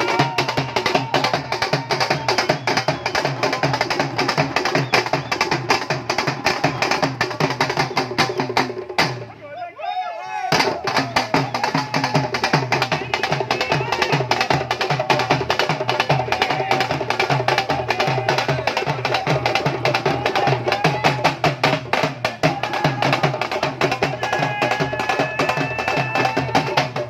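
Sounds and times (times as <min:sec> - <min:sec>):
dhol drum played fast: 0:00.0 - 0:09.3, 0:10.5 - 0:27.0.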